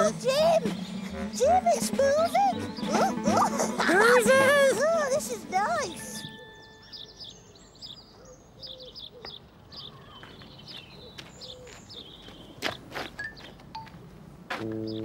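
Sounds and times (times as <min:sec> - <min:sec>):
birds chirping and twittering: 0:00.0 - 0:15.0.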